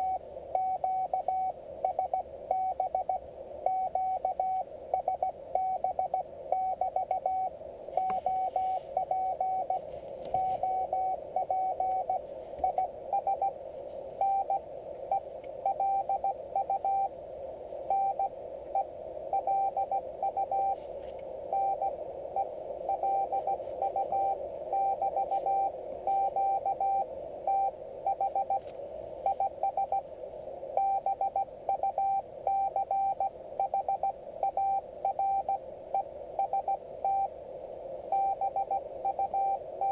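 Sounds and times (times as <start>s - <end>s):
morse code beeps: 0.0s - 13.6s, 14.2s - 17.1s, 17.9s - 20.8s, 21.5s - 28.6s, 29.2s - 30.1s, 30.8s - 37.3s, 38.1s - 39.9s
radio static hiss: 0.0s - 39.9s.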